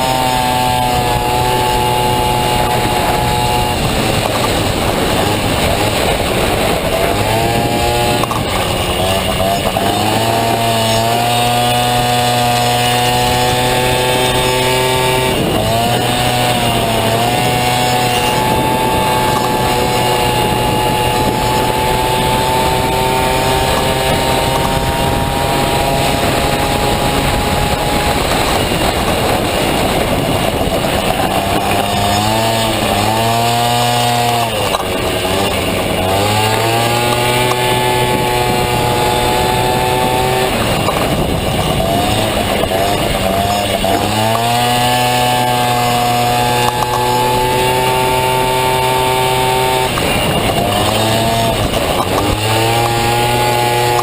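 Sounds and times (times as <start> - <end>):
scooter engine revving: 0.0 - 54.0.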